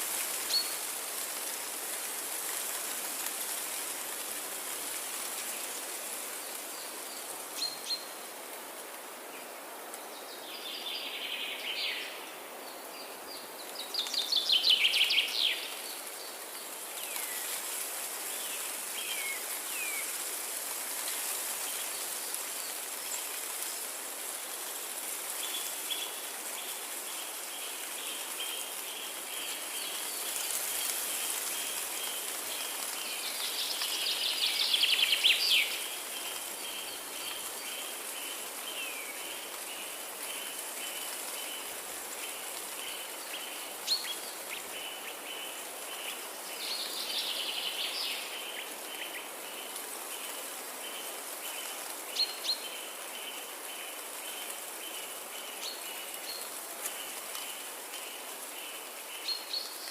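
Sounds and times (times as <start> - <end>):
steady background hiss: 0.0 - 59.9
forest birdsong: 0.1 - 2.7, 3.5 - 8.3, 9.0 - 59.9.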